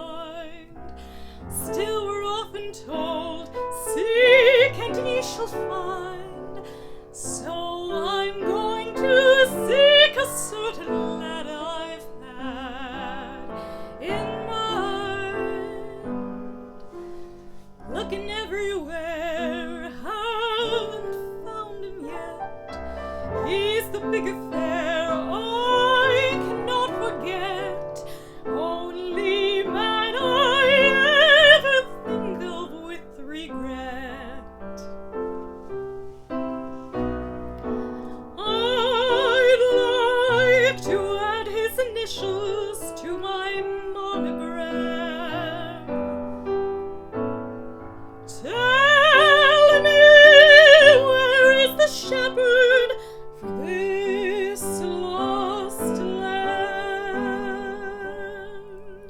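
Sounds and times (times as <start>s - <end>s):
woman singing with vibrato: 0.0s - 16.5s, 17.8s - 34.6s, 38.3s - 46.0s, 48.3s - 59.0s
piano accompaniment: 0.0s - 59.0s.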